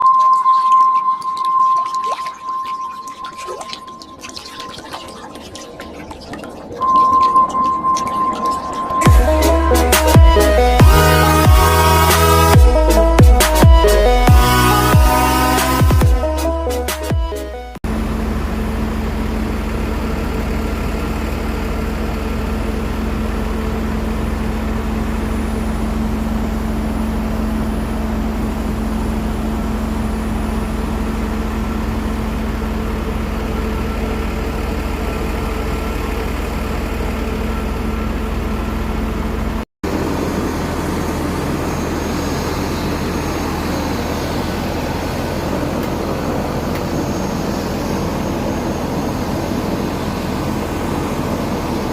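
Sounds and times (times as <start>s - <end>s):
aircraft turbine engines droning: 2.4s - 13.2s, 17.9s - 51.9s.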